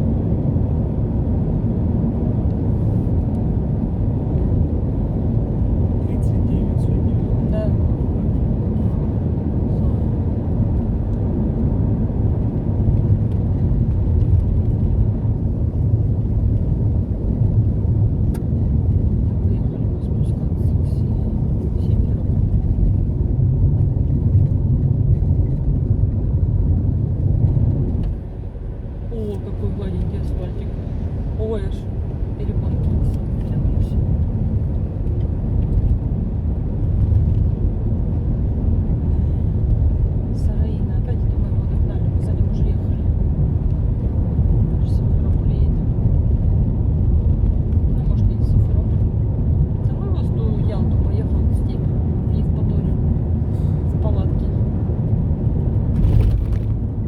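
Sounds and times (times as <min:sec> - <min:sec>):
car engine and tyre noise inside cabin: 0:00.0 - 0:57.0.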